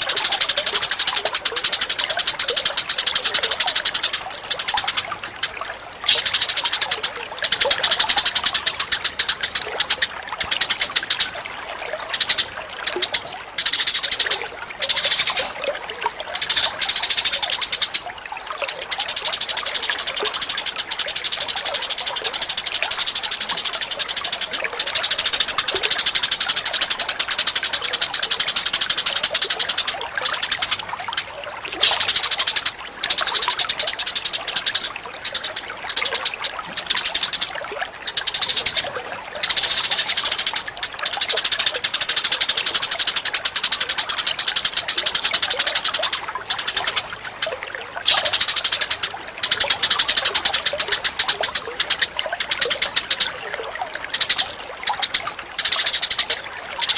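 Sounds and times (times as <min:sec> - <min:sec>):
bird chattering trills: 0:00.0 - 0:11.4, 0:12.0 - 0:15.6, 0:16.2 - 0:56.9.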